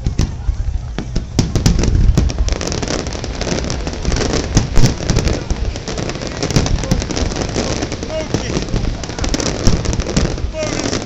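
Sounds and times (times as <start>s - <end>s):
fireworks booms: 0.0s - 11.0s
fireworks crackling and popping: 0.0s - 11.0s.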